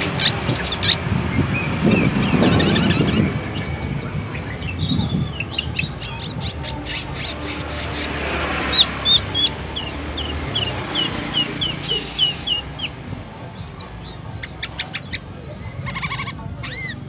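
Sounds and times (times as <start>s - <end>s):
low rumbling noise: 0.0s - 16.4s
songbird chirping and trilling: 0.0s - 17.0s.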